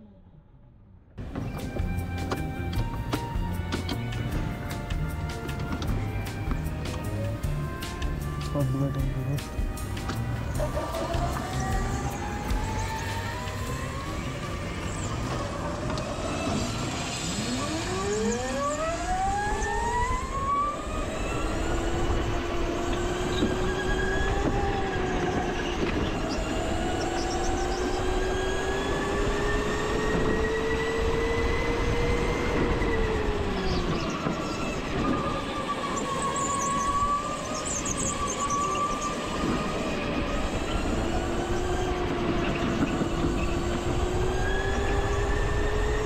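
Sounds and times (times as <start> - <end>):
go-kart engine accelerating: 0.0 - 46.0.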